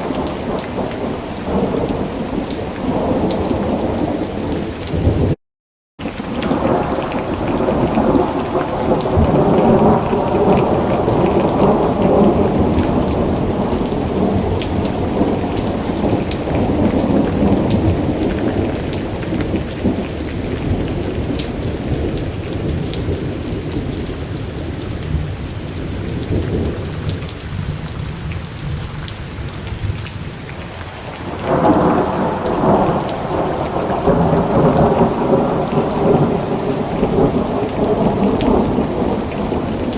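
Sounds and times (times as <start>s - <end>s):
steady rain: 0.0s - 5.4s, 6.0s - 39.9s
thunder rolling: 6.4s - 30.0s, 31.1s - 39.9s.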